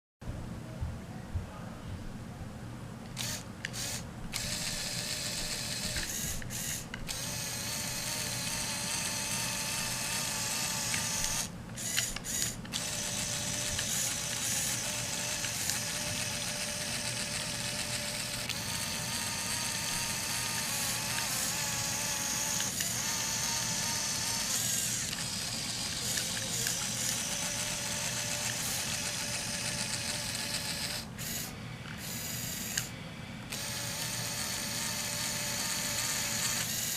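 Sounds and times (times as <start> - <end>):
toy motors and gears whirring: 3.1 - 36.9.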